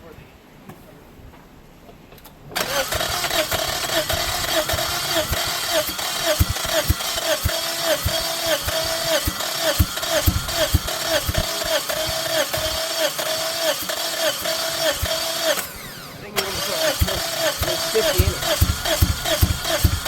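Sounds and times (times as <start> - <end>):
engine running unevenly: 2.6 - 20.0.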